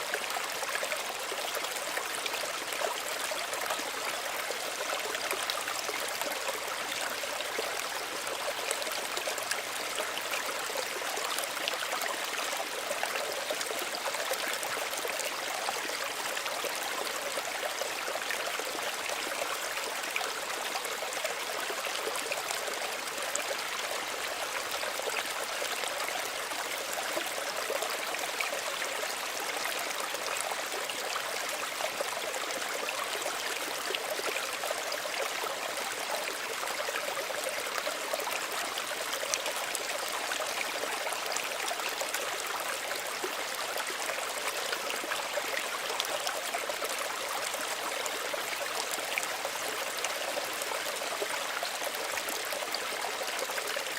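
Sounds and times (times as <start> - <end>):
stream trickling over stones: 0.0 - 53.9.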